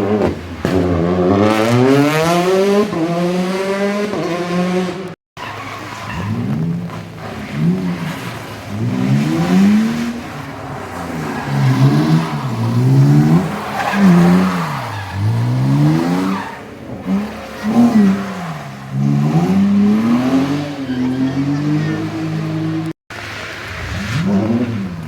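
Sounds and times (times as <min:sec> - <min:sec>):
car engine revving hard: 0:00.0 - 0:25.0.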